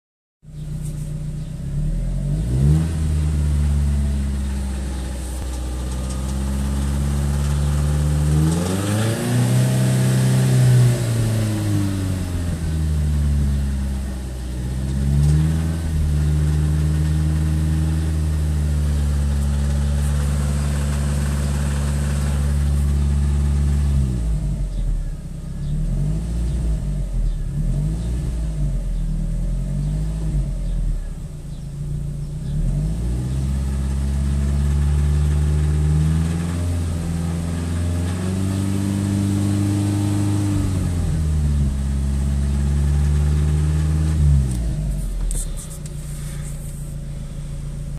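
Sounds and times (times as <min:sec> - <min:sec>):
car engine idling and revving: 0:00.4 - 0:47.9.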